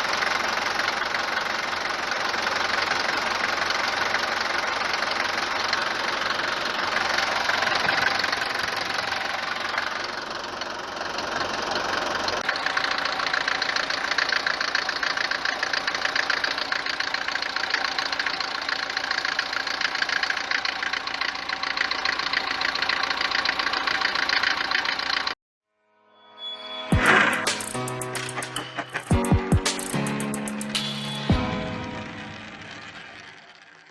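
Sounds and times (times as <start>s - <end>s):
diesel engine idling: 0.0s - 25.4s, 27.1s - 33.9s.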